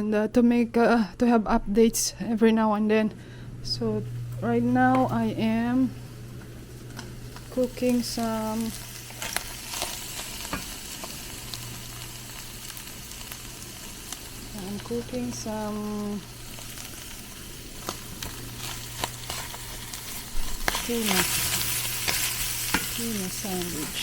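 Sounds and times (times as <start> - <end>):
low hum: 0.0 - 24.0
food sizzling in a frying pan: 4.0 - 24.0.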